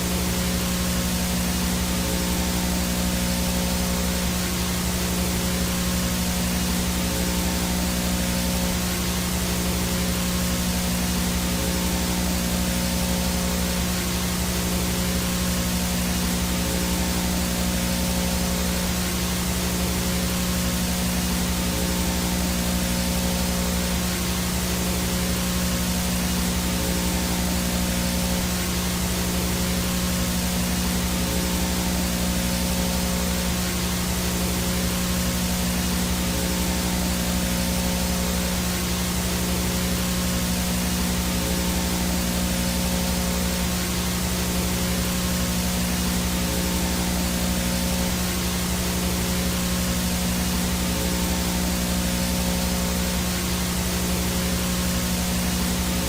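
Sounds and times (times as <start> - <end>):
low electrical hum: 0.0 - 56.0
tv static hiss: 0.0 - 56.0.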